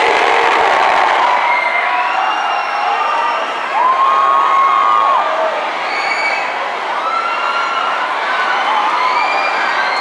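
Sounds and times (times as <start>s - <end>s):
audience cheering and screaming: 0.0s - 10.0s.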